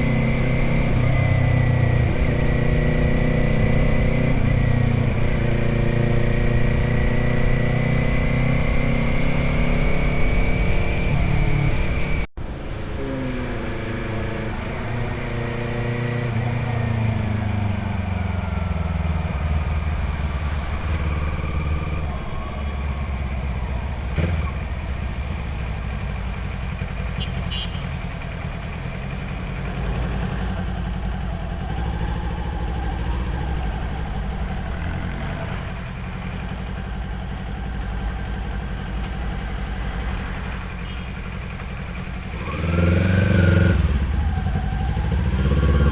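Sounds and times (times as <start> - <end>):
motorcycle engine and exhaust: 0.0 - 45.9.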